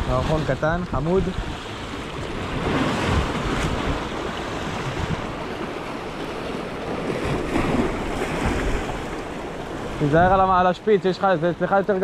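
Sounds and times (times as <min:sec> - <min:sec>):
wind buffeting microphone: 0:00.0 - 0:10.8
sea waves washing: 0:00.0 - 0:12.0.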